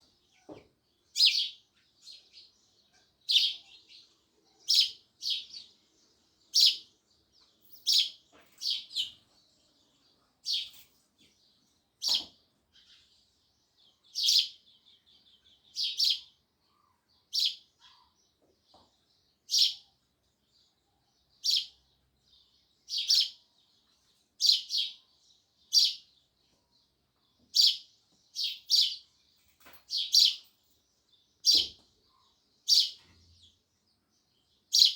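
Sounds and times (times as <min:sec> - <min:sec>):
soft bird chatter: 0:00.0 - 0:34.9
sparrows chirping: 0:00.0 - 0:34.9.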